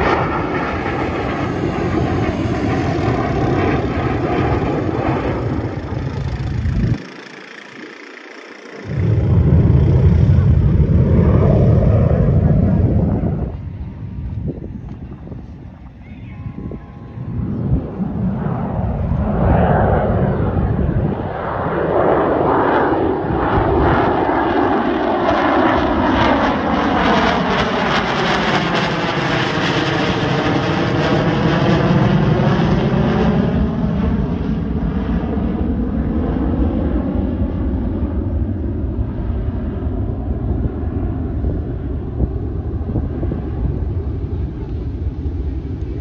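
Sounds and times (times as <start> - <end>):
jet bomber flyby: 0.0 - 46.0.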